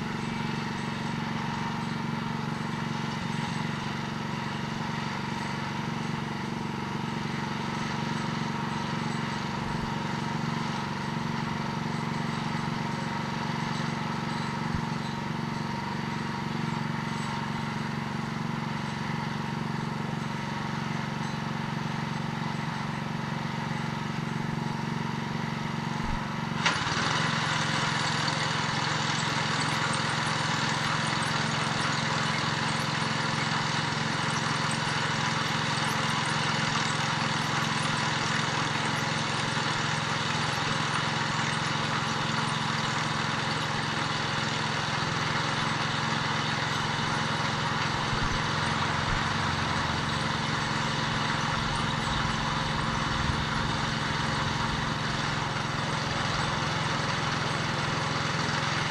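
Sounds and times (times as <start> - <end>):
engine running: 0.0 - 58.9.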